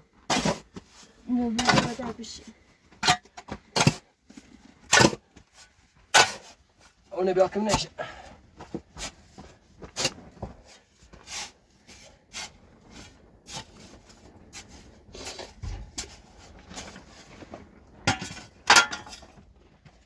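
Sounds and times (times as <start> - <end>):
objects knocking and scraping: 0.1 - 6.9, 7.7 - 20.0.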